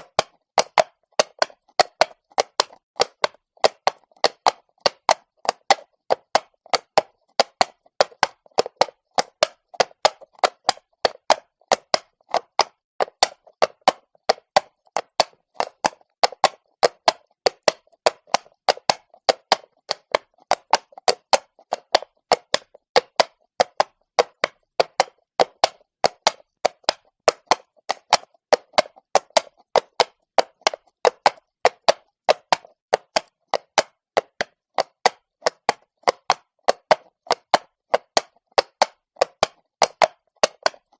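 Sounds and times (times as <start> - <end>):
horse hooves on stone: 0.0 - 40.9.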